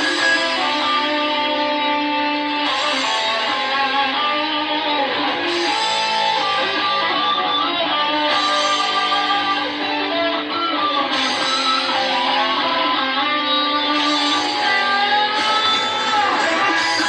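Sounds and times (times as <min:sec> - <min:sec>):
layered guitar music: 0:00.0 - 0:17.0.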